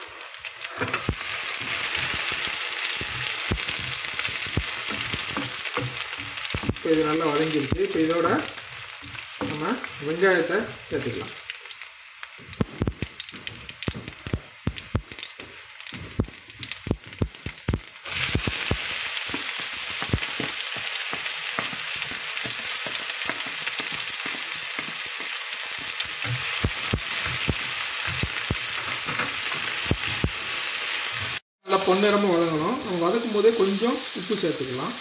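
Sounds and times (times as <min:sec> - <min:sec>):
spices popping in hot oil: 0:00.0 - 0:31.4
onions sizzling in oil: 0:00.0 - 0:35.0.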